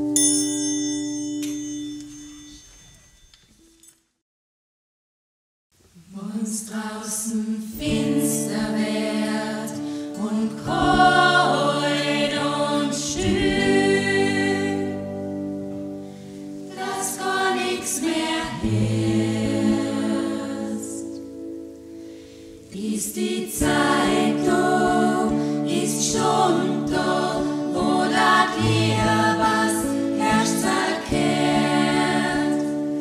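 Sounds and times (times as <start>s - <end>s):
choir singing sustained chords: 6.2s - 33.0s.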